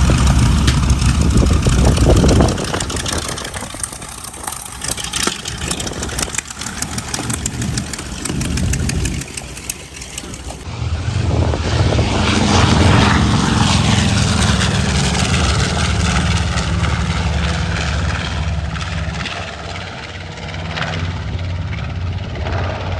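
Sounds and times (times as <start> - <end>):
radial aircraft engines roaring: 0.0 - 22.9.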